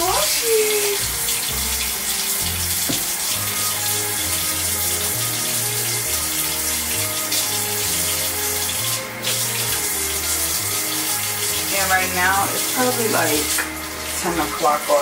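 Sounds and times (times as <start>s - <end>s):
hands washing under water: 0.0s - 15.0s
tap running into sink: 1.0s - 15.0s.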